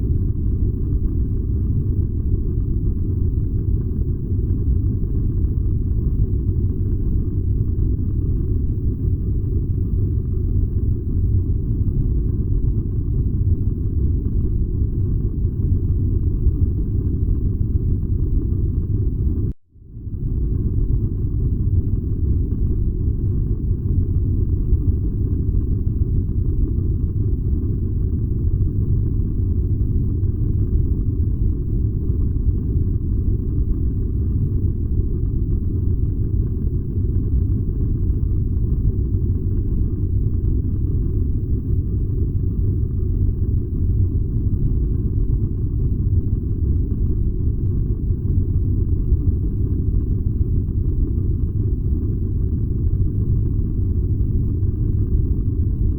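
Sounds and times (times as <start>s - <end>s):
furnace low rumble: 0.0s - 55.9s.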